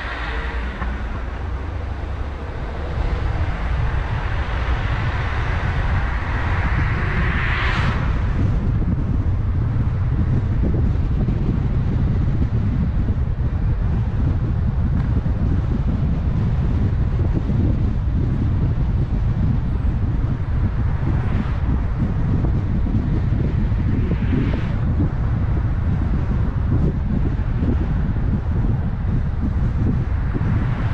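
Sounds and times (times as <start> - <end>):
car driving rumble: 0.0 - 30.9
tyre and wind noise: 0.0 - 30.9.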